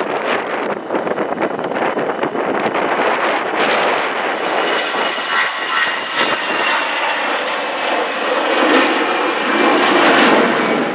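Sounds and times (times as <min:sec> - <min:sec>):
jet engines at takeoff: 0:00.0 - 0:10.9.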